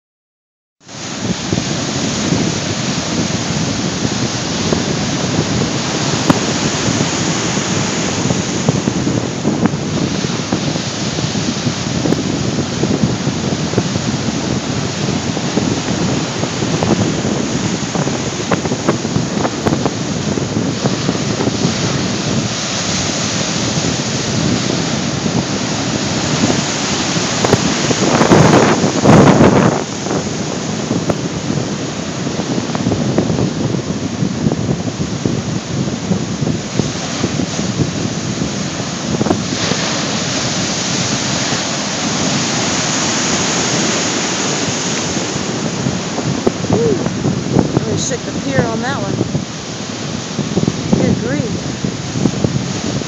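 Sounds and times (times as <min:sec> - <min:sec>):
ocean surf breaking: 0:00.8 - 0:53.0
wind buffeting microphone: 0:00.8 - 0:53.0.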